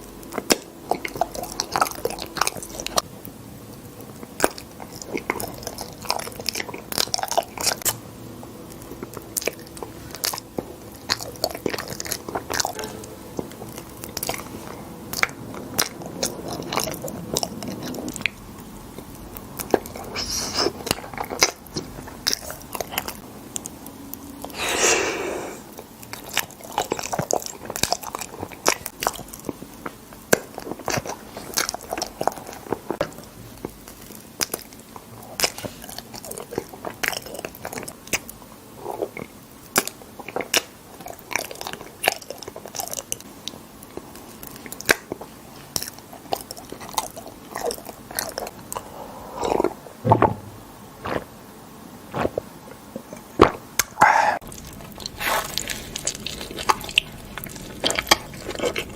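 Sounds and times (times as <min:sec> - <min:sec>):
person chewing crunchy food: 0:00.0 - 0:50.0, 0:51.0 - 0:51.3, 0:52.1 - 0:58.9.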